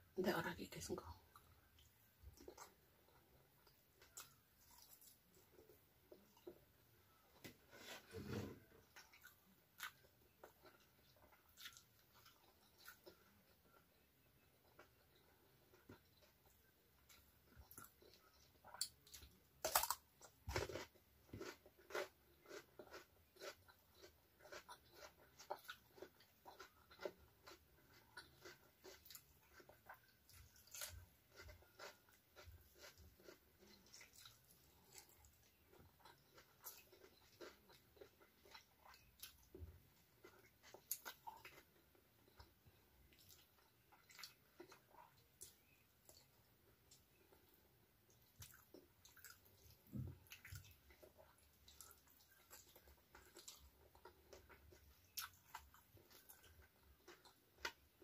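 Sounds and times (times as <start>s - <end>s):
person chewing crunchy vegetables: 1.2s - 58.0s.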